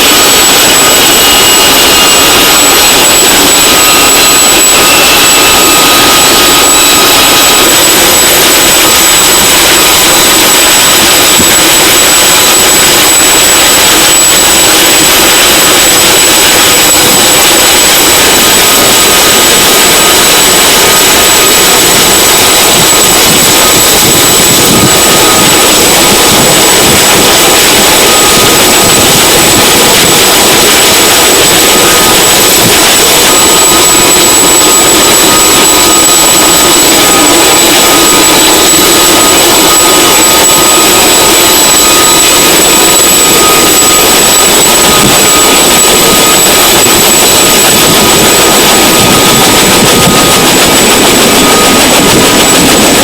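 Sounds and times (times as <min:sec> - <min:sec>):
helicopter turbines and rotors: 0:00.0 - 0:53.0.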